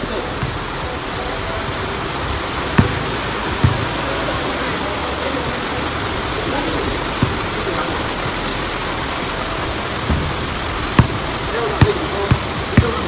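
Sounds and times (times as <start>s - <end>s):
steady rushing hiss: 0.0s - 13.0s
basketball bouncing on concrete: 0.3s - 13.0s.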